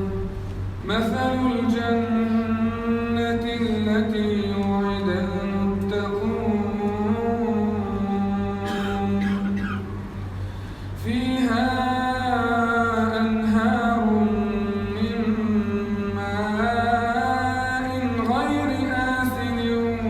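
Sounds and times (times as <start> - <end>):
man chanting recitation: 0.0 - 10.0, 11.0 - 20.0.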